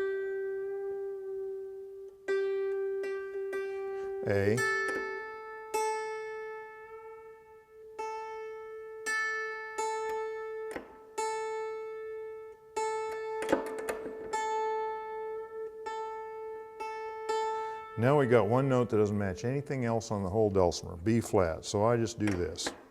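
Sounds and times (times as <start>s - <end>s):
dulcimer strings plucked: 0.0s - 22.9s.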